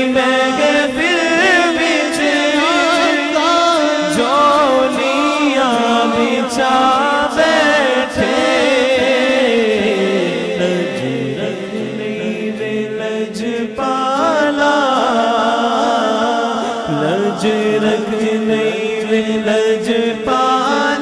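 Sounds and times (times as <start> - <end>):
man singing unaccompanied: 0.0 - 21.0.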